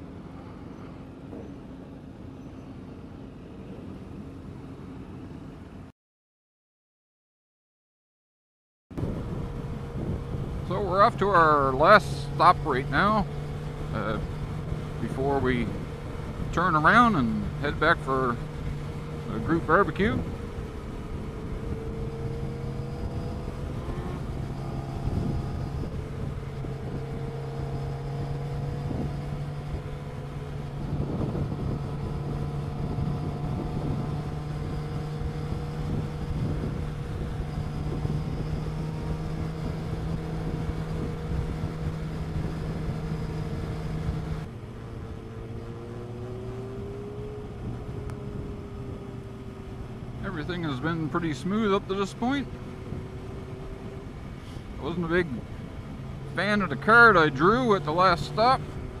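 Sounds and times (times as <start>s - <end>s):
road and wind noise: 0.0s - 5.9s, 8.9s - 59.0s
motorcycle engine running: 9.0s - 59.0s.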